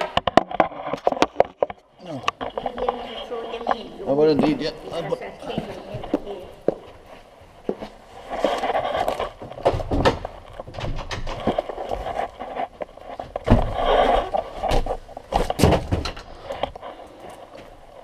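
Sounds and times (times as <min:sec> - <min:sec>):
camera scraping and rustling: 0:00.0 - 0:06.2, 0:07.6 - 0:18.0.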